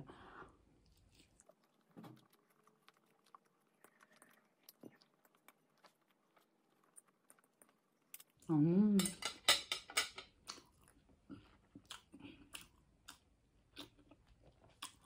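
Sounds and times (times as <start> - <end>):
chewing and mouth clicks: 0.8 - 8.5, 10.4 - 15.0.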